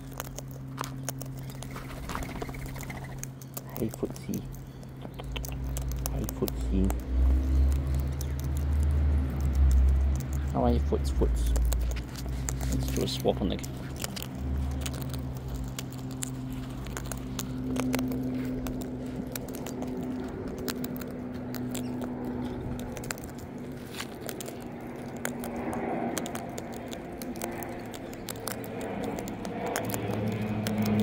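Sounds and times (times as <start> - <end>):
aeroplane drone overhead: 0.0 - 31.0
beak cracking seed husks: 0.0 - 31.0.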